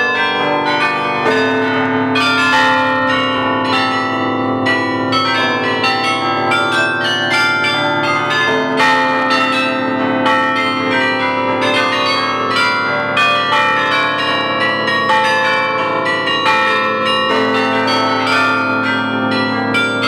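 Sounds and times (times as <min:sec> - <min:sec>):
carillon bells playing a tune: 0:00.0 - 0:20.0.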